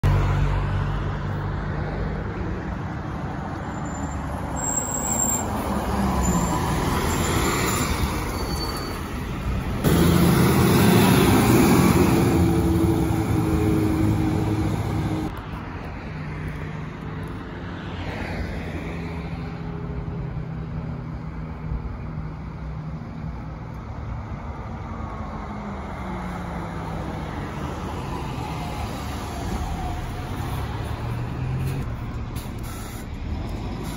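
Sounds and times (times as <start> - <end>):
buses driving past: 0.0 - 33.9
road traffic: 0.0 - 33.9.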